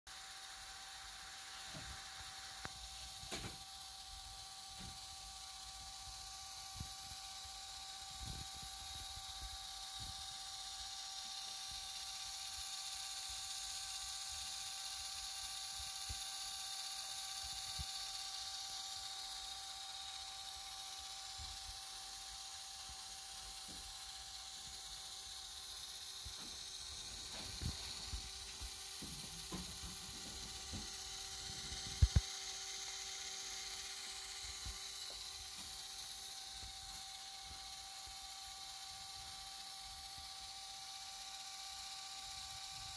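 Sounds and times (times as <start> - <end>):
electric hum of two tones: 0.1 - 40.3.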